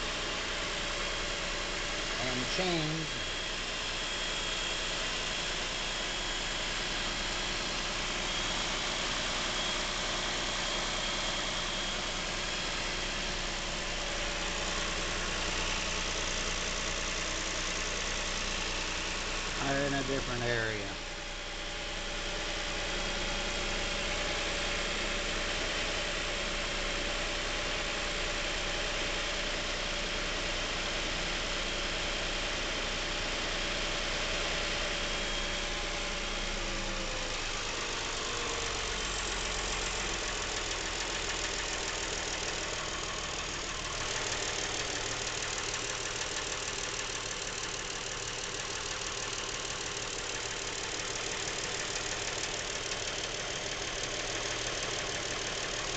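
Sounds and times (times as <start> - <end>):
car engine idling with knocking: 0.0 - 55.9.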